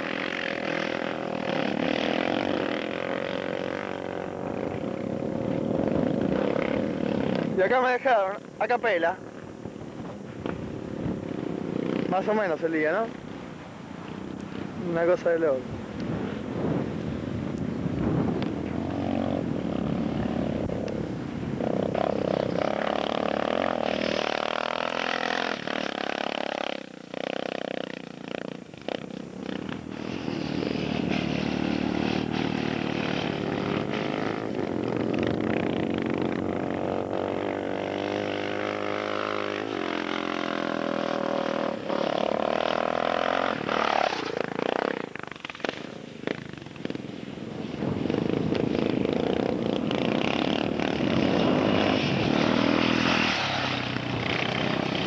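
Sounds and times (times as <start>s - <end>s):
motorcycle engine revving: 0.0s - 9.5s, 10.4s - 13.2s, 14.3s - 55.0s.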